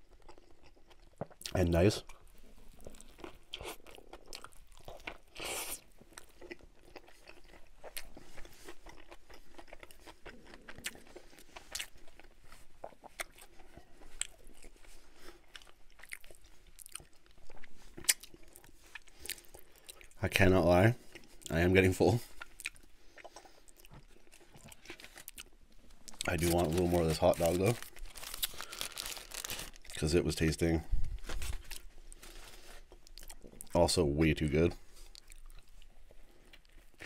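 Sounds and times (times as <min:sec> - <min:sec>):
person chewing burger: 0:00.0 - 0:20.2, 0:21.0 - 0:21.5, 0:22.2 - 0:30.0, 0:31.5 - 0:33.8, 0:34.8 - 0:37.0.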